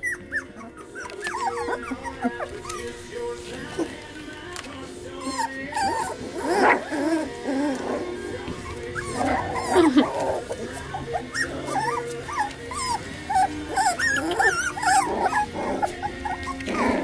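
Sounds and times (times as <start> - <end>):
puppies whining and yipping: 0.0 - 17.0.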